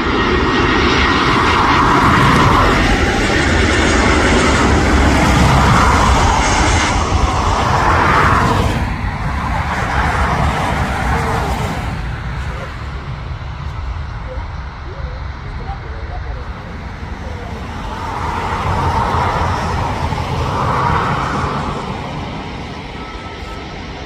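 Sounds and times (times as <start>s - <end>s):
airliner engines passing: 0.0s - 24.0s.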